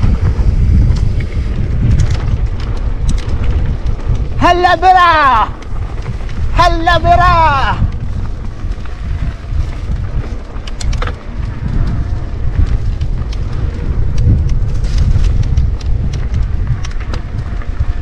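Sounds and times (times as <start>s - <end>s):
bike clicks and rattles: 0.0s - 18.0s
wind buffeting microphone: 0.0s - 18.0s.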